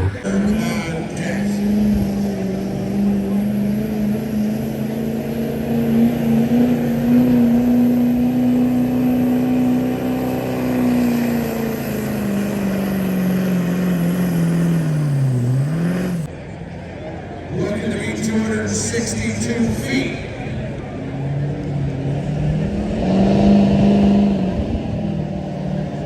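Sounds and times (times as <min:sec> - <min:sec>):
diesel truck engine at high revs: 0:00.0 - 0:16.6, 0:17.5 - 0:26.0.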